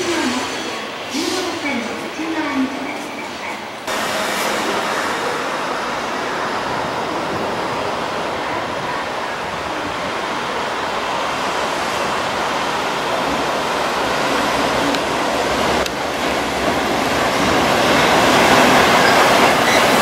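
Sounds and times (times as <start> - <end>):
train rushing along rails: 0.0 - 20.0.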